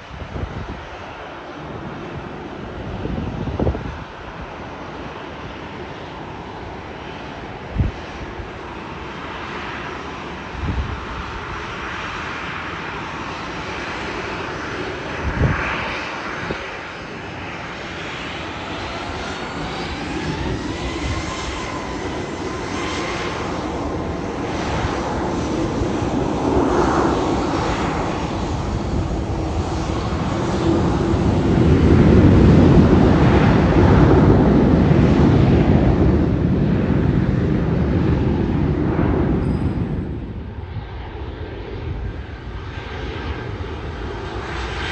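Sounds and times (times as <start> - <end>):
airliner engines running: 0.0 - 44.9
wind on microphone: 0.0 - 44.9.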